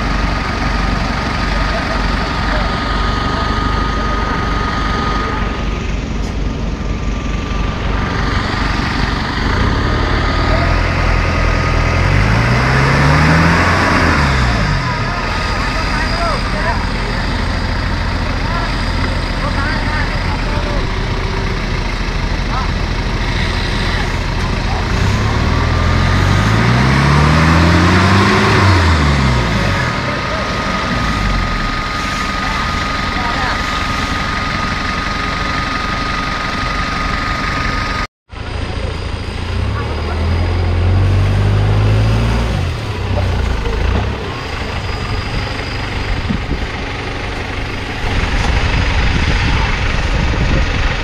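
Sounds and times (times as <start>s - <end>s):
truck engine running and revving: 0.0s - 51.0s.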